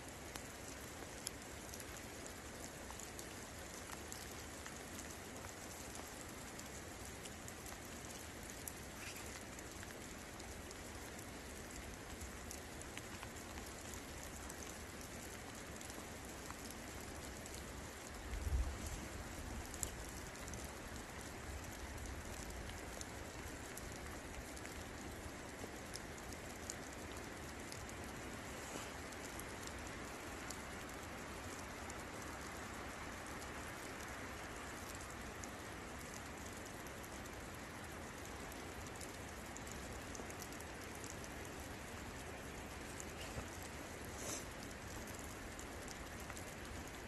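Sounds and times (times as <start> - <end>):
sharp raindrop ticks: 0.0 - 47.0
steady rain falling: 0.0 - 47.0.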